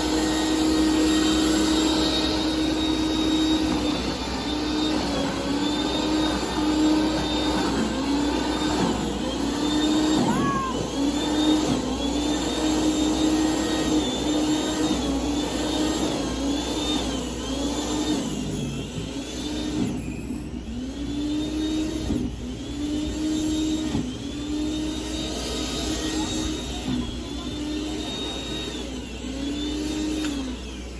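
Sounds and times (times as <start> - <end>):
snowblower engine running: 0.0 - 30.9.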